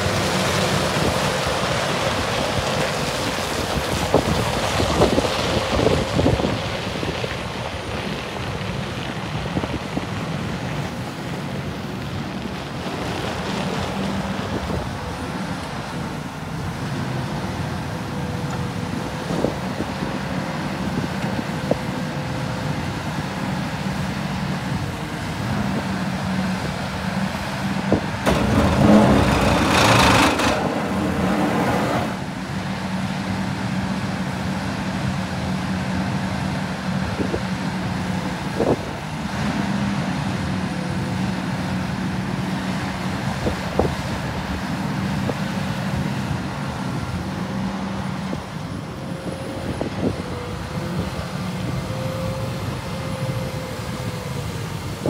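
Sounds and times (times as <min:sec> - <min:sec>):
excavator diesel engine humming: 0:00.0 - 0:55.0.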